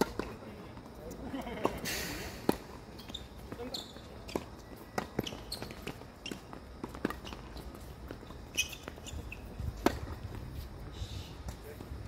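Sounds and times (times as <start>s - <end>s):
tennis ball bounces and racket hits: 0.0s - 1.8s, 2.4s - 10.8s
shoe scuffs on court: 1.8s - 12.0s.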